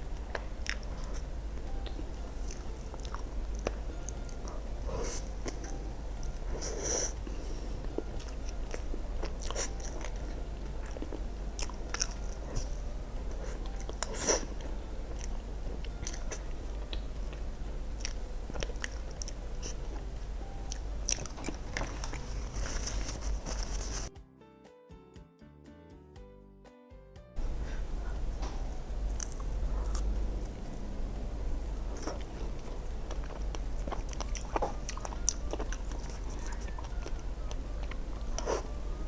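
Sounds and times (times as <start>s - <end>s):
biting and chewing desserts: 0.3s - 24.1s, 29.1s - 30.6s, 31.7s - 38.9s.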